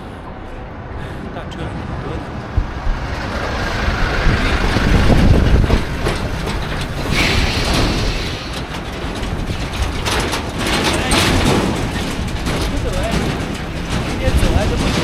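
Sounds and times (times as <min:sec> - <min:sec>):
heavy trucks passing: 0:00.0 - 0:15.0
rattling clatter: 0:02.5 - 0:15.0.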